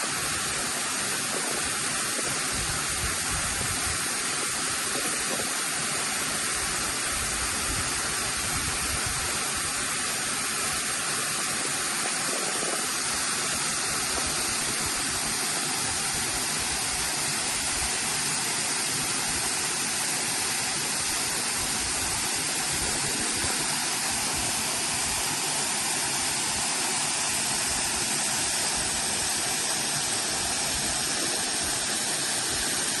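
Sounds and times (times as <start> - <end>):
waterfall pouring: 0.0 - 33.0.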